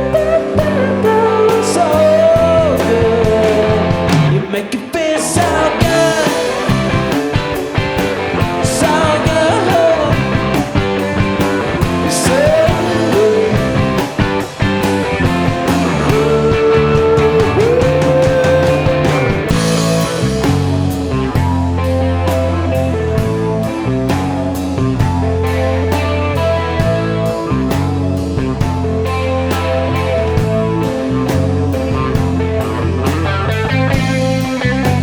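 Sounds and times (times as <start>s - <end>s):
lead guitar bending notes: 0.0s - 35.0s
live rock band playing: 0.0s - 35.0s.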